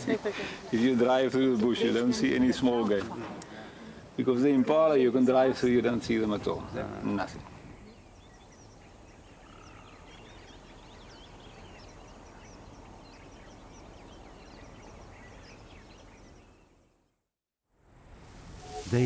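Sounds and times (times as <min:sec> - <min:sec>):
steady background hiss: 0:00.0 - 0:16.4, 0:17.8 - 0:19.0
birds chirping: 0:00.0 - 0:17.0.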